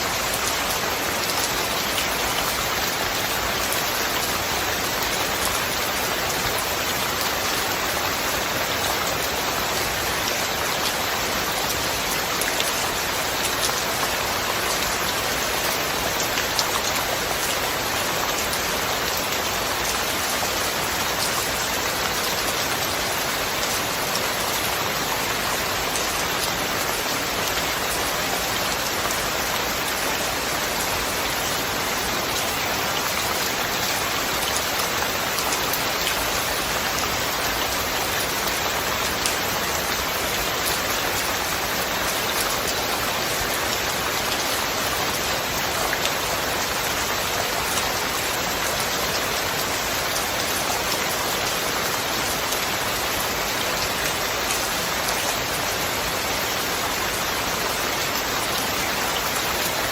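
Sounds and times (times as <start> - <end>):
dense rain falling: 0.0 - 59.9.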